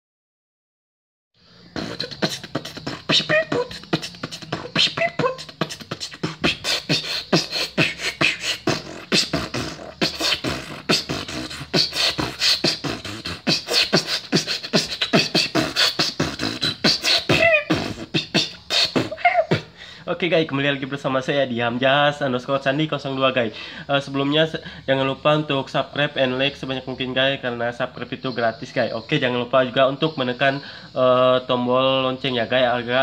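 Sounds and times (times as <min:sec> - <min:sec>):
wavering pitched vocal sounds: 0:01.4 - 0:33.0
fast beatboxing: 0:01.6 - 0:33.0.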